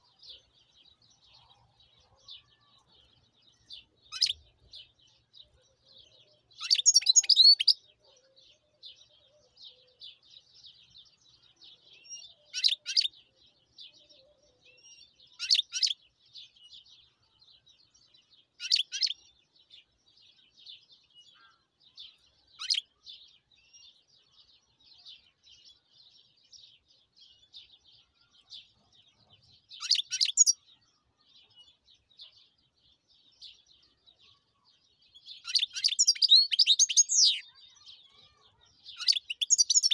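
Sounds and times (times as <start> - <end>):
finch singing high twitter: 0.0 - 39.9.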